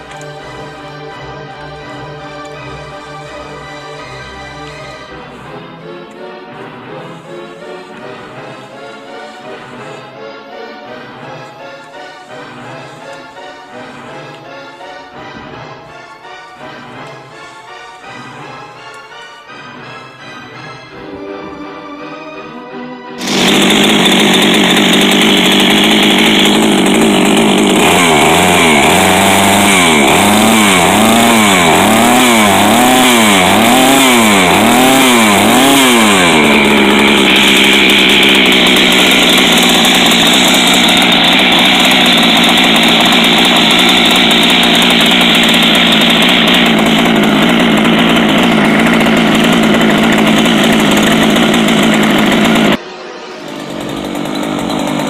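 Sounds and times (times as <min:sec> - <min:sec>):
chainsaw running: 0:00.0 - 0:55.0.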